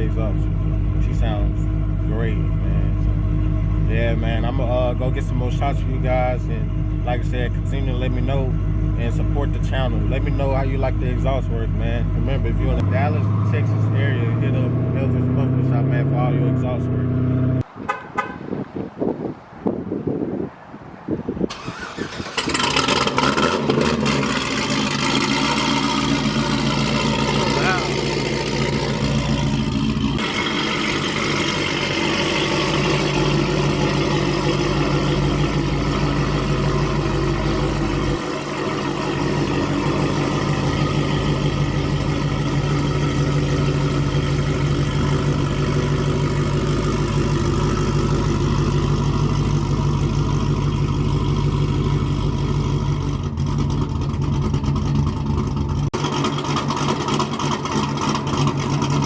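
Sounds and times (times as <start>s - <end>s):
loud deep car exhaust note: 0.0s - 17.7s, 22.6s - 59.0s.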